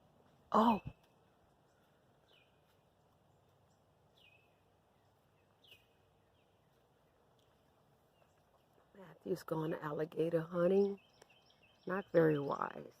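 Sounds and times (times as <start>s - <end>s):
high falling bird chirp: 0.5s - 9.0s, 10.5s - 13.0s.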